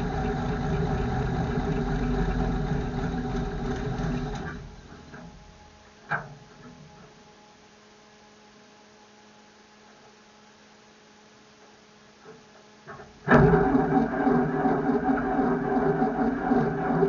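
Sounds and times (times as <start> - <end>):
faint electrical hum: 0.0 - 14.5.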